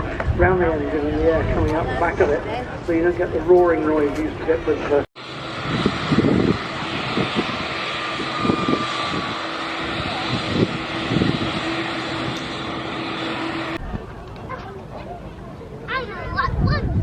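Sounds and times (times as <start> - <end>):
wind buffeting microphone: 0.0 - 14.6, 15.8 - 17.0
aircraft engines running: 0.0 - 17.0.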